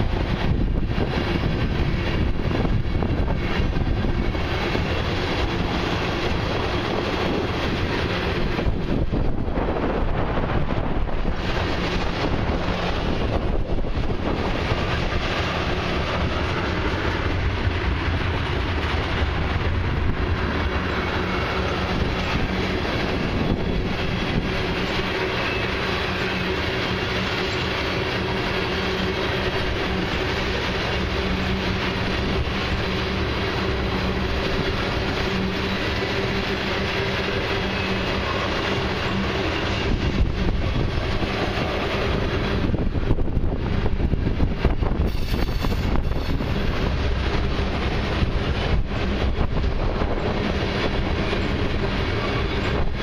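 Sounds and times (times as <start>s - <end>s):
train wheels clickety-clack: 0.0s - 53.0s.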